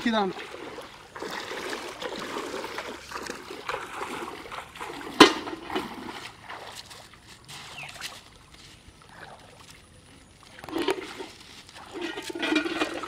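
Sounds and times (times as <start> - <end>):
feet wading through water: 0.0 - 13.0.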